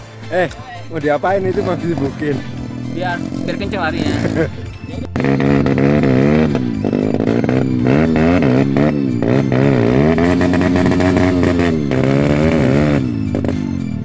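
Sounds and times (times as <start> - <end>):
dirt bike engine revving: 1.2 - 14.0.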